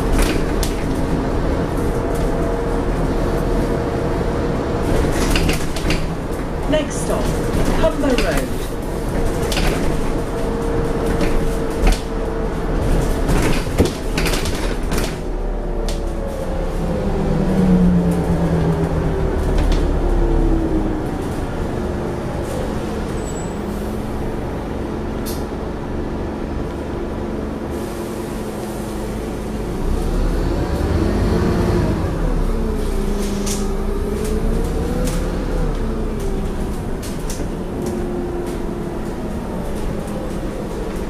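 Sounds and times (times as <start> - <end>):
bus diesel engine from inside: 0.0 - 41.0.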